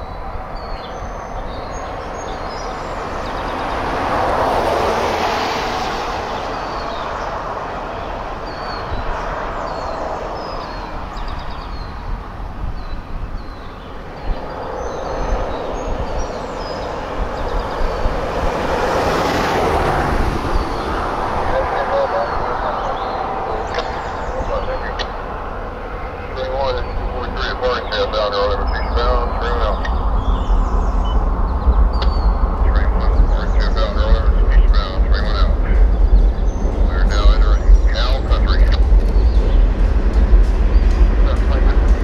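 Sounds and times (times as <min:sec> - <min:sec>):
small birds chirping: 0:00.0 - 0:42.0
train rumbling on rails: 0:00.0 - 0:42.0.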